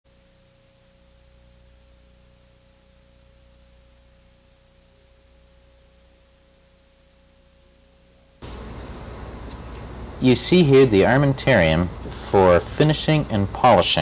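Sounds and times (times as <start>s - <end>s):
low electrical hum: 0.1s - 14.0s
recording hiss: 0.1s - 14.0s
thin steady tone: 0.1s - 14.0s.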